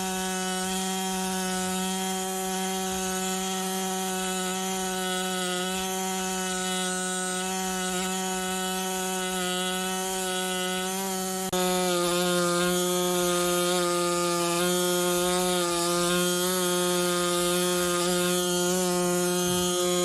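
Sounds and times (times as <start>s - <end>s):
small power tool buzzing: 0.0s - 20.0s.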